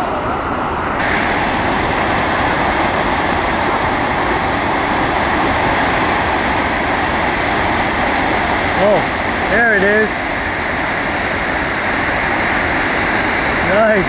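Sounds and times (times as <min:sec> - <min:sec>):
whitewater rapids rushing: 0:00.0 - 0:14.0.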